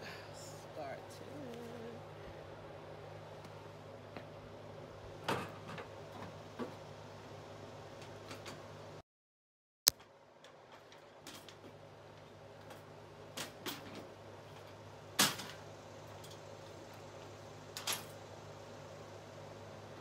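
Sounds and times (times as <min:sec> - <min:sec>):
steady low hum: 0:00.0 - 0:09.0, 0:09.9 - 0:20.0.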